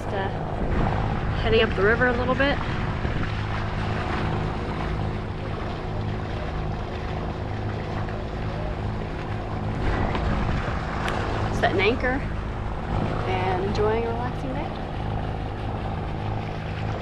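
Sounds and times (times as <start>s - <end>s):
boat engines droning: 0.0s - 17.0s
wind and water rushing: 0.0s - 17.0s.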